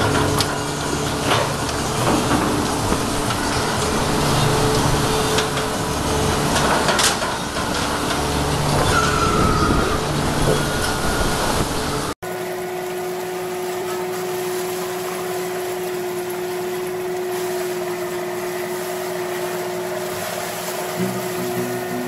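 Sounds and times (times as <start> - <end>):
fishing boat machinery drone: 0.0 - 22.0.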